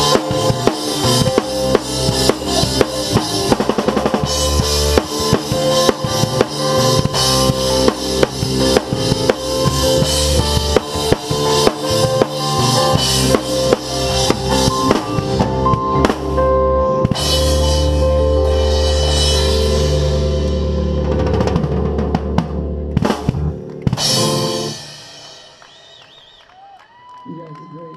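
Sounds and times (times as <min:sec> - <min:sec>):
rock band playing: 0:00.0 - 0:25.9
rock drum kit played hard: 0:00.0 - 0:25.9.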